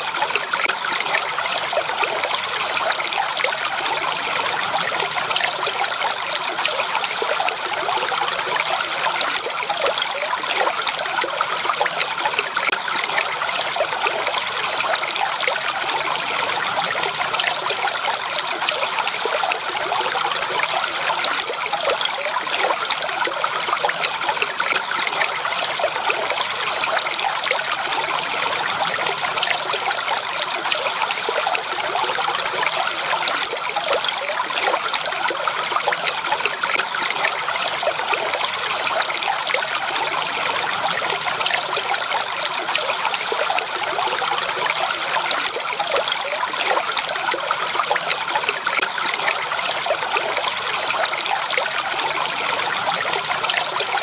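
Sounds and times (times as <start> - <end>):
stream trickling over stones: 0.0 - 54.0.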